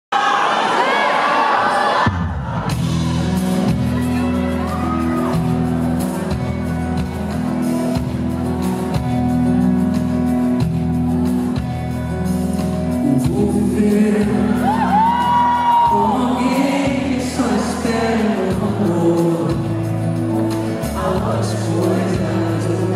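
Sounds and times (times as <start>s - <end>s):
acoustic guitar playing: 2.7s - 22.9s.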